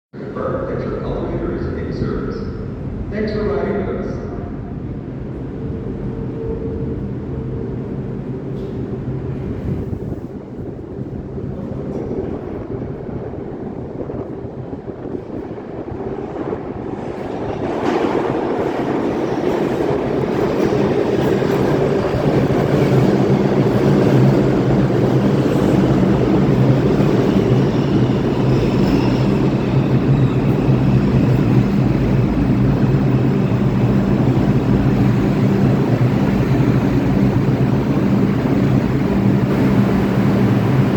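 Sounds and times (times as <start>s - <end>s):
train wheels rumbling on rail: 4.6s - 40.9s.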